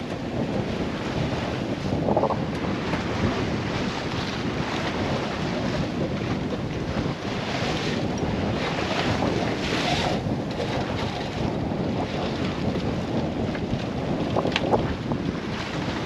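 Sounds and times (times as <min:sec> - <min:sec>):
water rushing along hull: 0:00.0 - 0:16.0
waves washing past: 0:00.0 - 0:16.0
wind buffeting microphone: 0:00.0 - 0:16.0.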